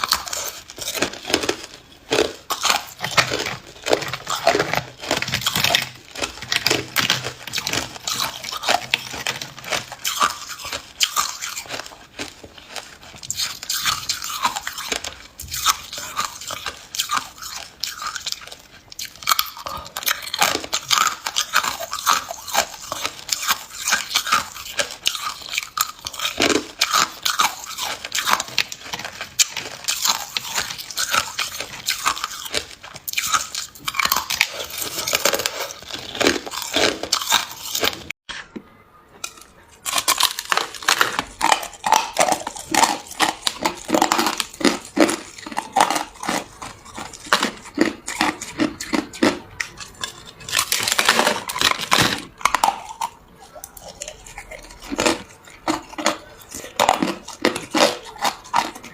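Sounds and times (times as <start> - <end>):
ice cubes being chewed: 0.0 - 38.4, 39.1 - 58.9.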